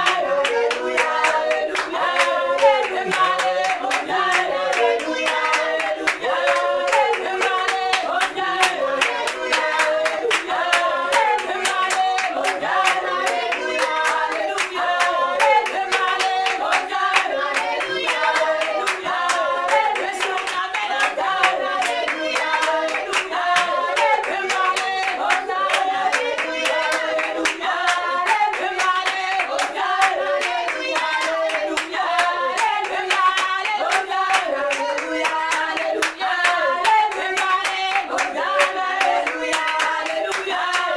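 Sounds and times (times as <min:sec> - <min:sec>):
rhythmic hand-clapping: 0:00.0 - 0:40.9
women singing worship song: 0:00.0 - 0:40.9.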